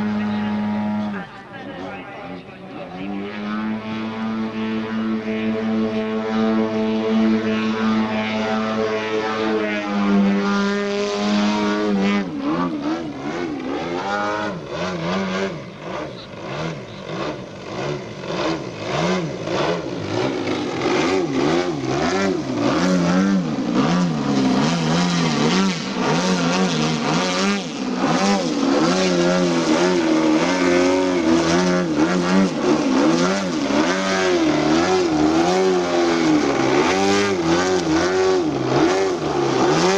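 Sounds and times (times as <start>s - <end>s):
model plane engine and propeller: 0.0s - 39.9s.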